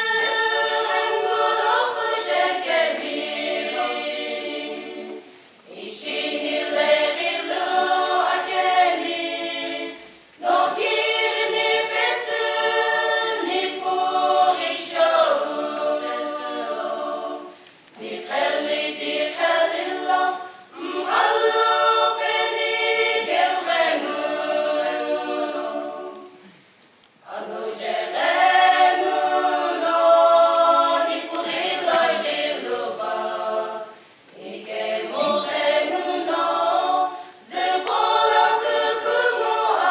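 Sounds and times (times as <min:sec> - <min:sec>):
women's choir singing: 0:00.0 - 0:26.6, 0:27.2 - 0:39.9.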